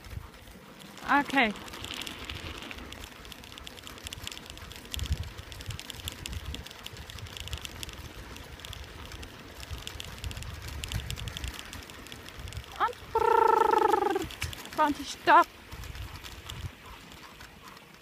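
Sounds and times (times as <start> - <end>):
bicycle rolling over gravel: 0.0 - 18.0
tyres clicking and rattling: 0.0 - 18.0.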